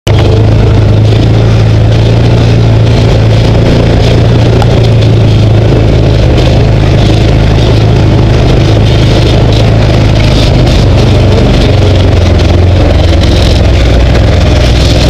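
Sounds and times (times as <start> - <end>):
utility vehicle engine droning: 0.0 - 15.0.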